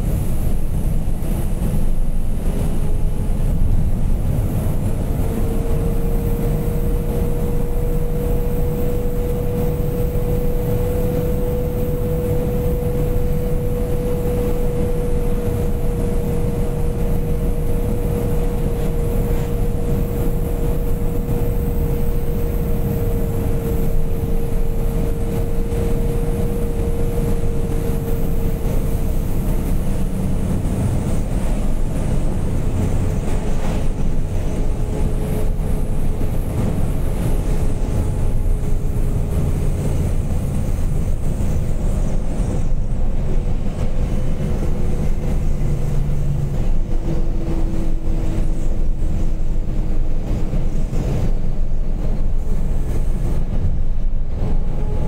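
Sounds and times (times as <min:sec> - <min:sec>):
steady whine: 0:00.0 - 0:55.0
truck engine and road rumble: 0:00.0 - 0:55.0.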